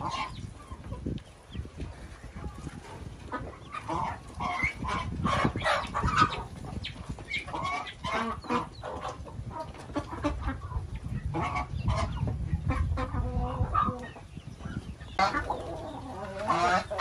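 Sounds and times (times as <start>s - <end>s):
turkeys and ducks calling: 0.0s - 17.0s.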